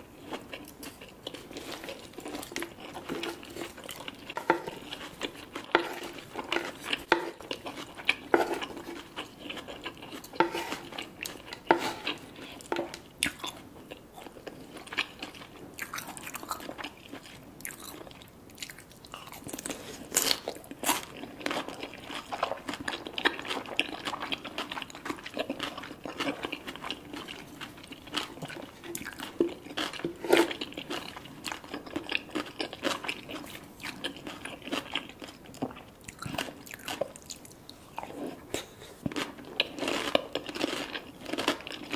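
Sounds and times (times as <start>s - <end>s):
person chewing crunchy food: 0.0s - 41.9s.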